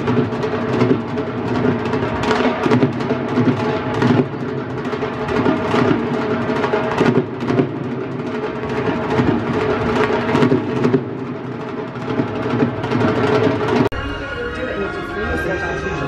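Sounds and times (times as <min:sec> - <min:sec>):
drums played with sticks: 0:00.0 - 0:16.0.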